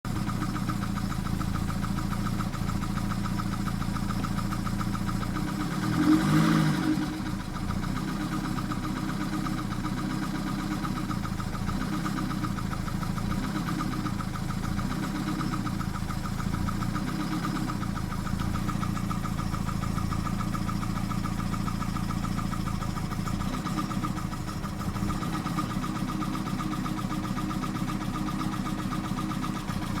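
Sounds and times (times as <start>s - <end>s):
car engine idling roughly: 0.0s - 30.0s.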